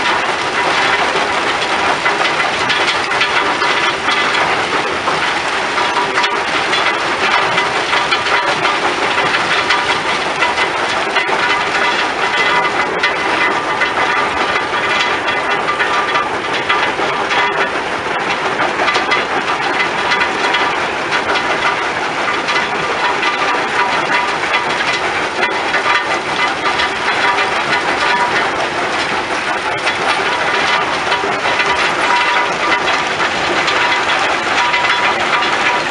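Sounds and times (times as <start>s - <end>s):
rock crusher machine noise: 0.0s - 35.9s.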